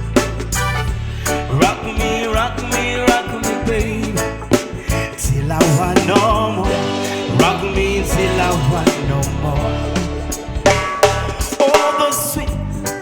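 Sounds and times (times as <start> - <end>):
bass line: 0.0 - 13.0
drum beat: 0.0 - 13.0
guitar: 0.0 - 13.0
voice or keyboard melody: 0.6 - 13.0.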